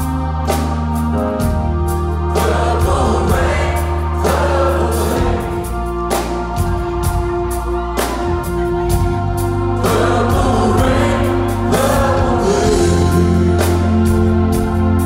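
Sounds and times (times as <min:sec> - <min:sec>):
held keyboard chords: 0:00.0 - 0:15.0.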